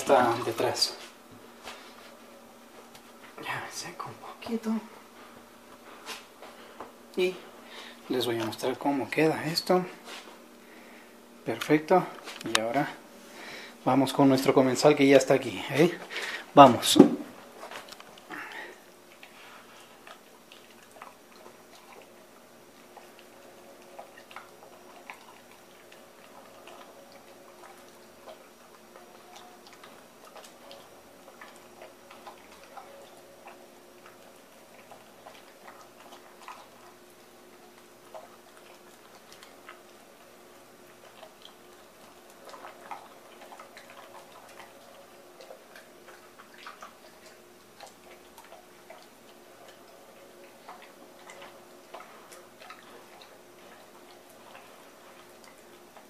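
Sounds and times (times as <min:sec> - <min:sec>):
dog chewing: 0:04.0 - 0:56.0.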